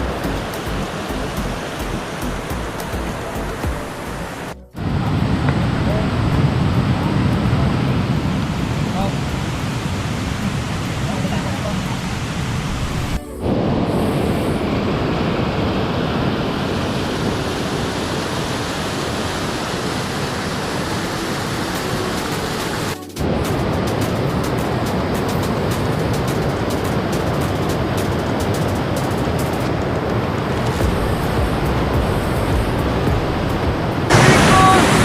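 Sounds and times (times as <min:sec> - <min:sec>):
fast-flowing water rushing: 0:00.0 - 0:35.0.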